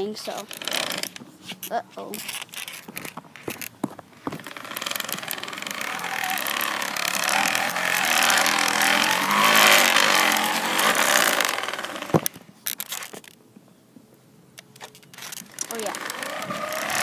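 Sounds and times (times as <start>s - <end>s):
plastic bottle rattling on spokes: 0.3s - 13.4s, 14.8s - 17.0s.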